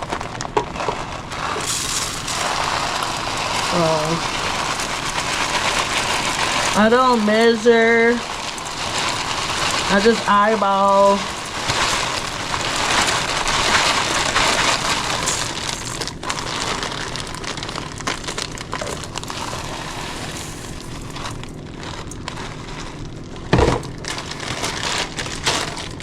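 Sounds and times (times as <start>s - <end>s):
dry rice pouring into a pot: 0.0s - 26.0s.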